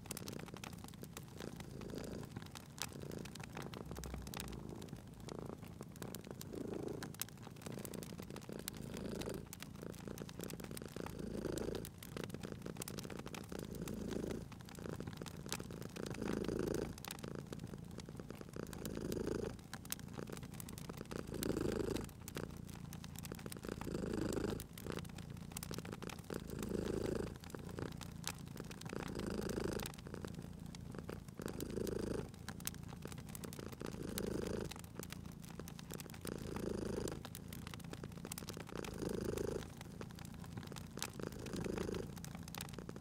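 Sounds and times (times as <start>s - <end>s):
cat purring: 0.0s - 43.0s
wood fire crackling: 0.0s - 43.0s.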